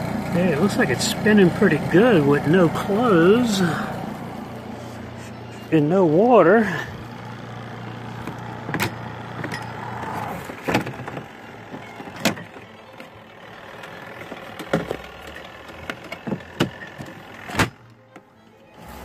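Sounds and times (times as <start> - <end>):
washing machine spin hum: 0.0 - 18.0.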